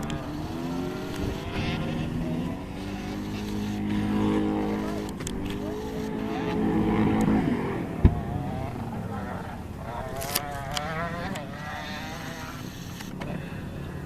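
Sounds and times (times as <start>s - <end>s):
vehicle engine winding down: 0.0s - 13.6s.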